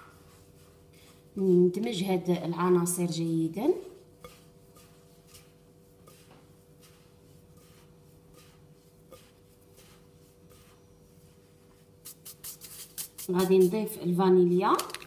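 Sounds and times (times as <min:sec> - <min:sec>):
hands rubbing dry mixture in bowl: 0:00.0 - 0:15.0
low steady hum: 0:00.0 - 0:15.0.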